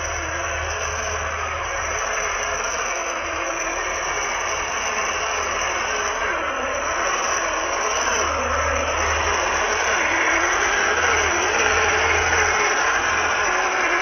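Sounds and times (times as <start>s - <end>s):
rc car motor whining: 0.0s - 14.0s.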